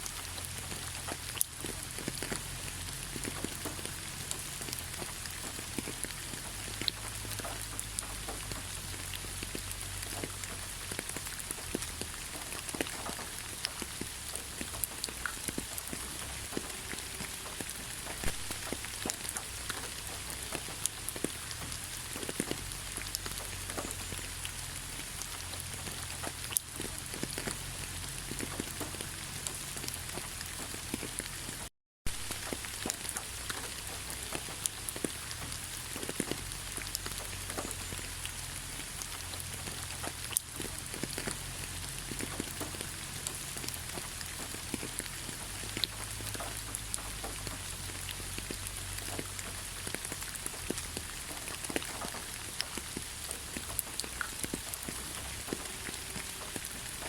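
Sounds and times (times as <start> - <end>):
rain falling in a forest: 0.0 - 57.0
raindrops ticking: 0.0 - 57.0.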